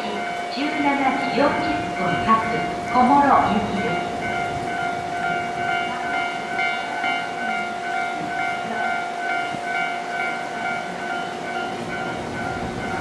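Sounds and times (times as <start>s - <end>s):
steady warning tone: 0.0s - 13.0s.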